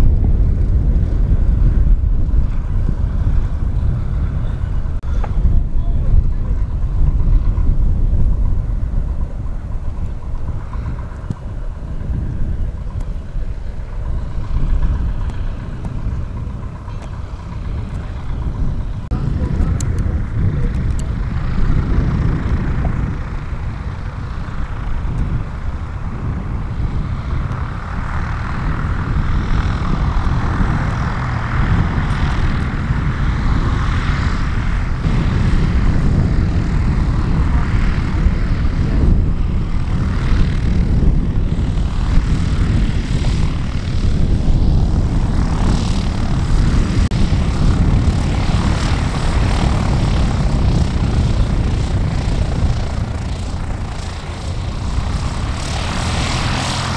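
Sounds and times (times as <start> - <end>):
propeller aircraft engine running: 0.0 - 56.9.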